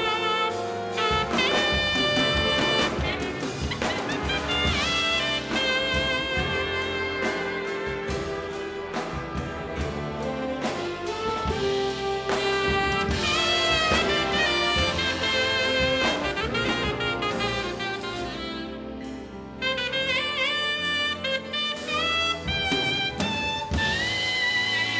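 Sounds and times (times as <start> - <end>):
big band swing music: 0.0 - 24.9
brass and saxophones: 0.0 - 24.9
steady drum beat: 0.0 - 24.9.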